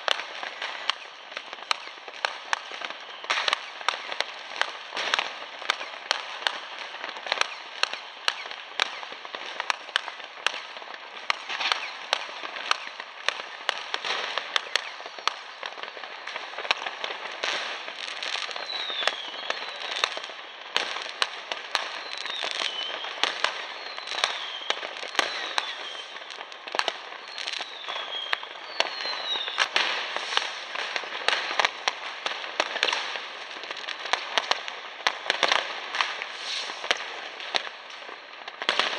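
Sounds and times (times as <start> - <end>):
falling firework whistles: 0.0 - 38.9
firecracker and rocket bangs: 0.0 - 38.9
fireworks crackling: 0.0 - 38.9.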